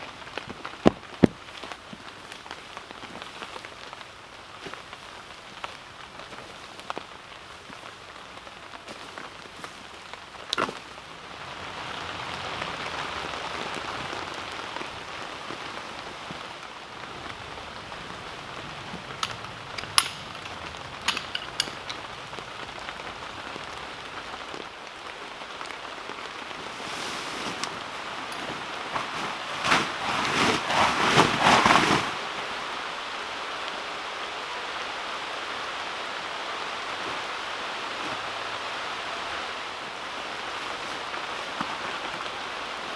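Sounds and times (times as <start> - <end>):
heavy rain on a tent: 0.0 - 42.9.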